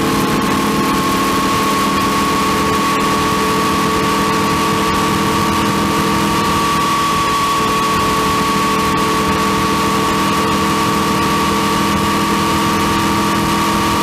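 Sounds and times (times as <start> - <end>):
high whine: 0.0 - 14.0
motorcycle running: 0.0 - 14.0.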